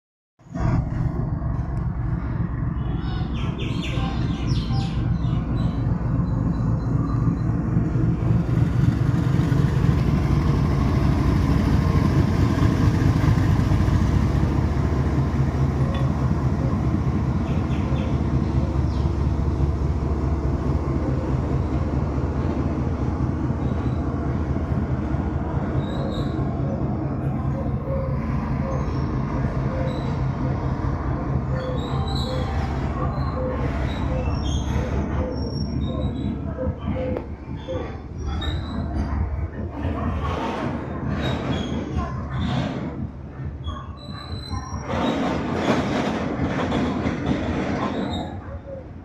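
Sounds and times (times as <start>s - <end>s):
goods train rumbling past: 0.4s - 49.0s.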